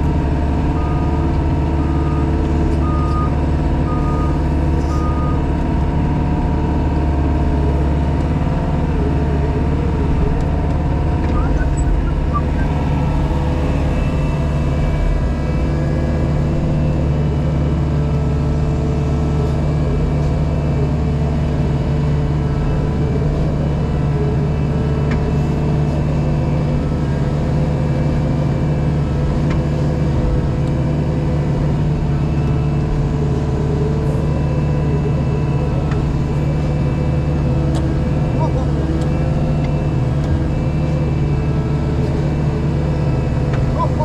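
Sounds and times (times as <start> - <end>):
diesel engine heard from cab: 0.0 - 44.0.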